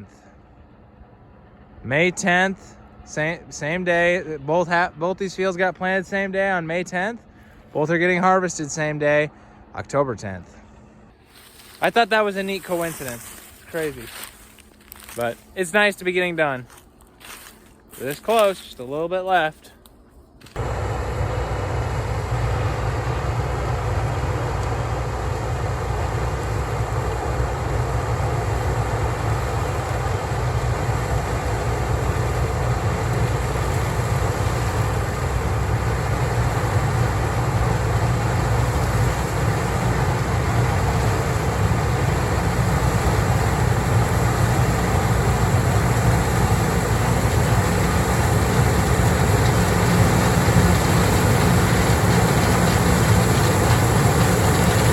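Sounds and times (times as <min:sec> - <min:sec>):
combine harvester running: 0:00.0 - 0:09.8, 0:10.5 - 0:19.6, 0:20.4 - 0:54.9.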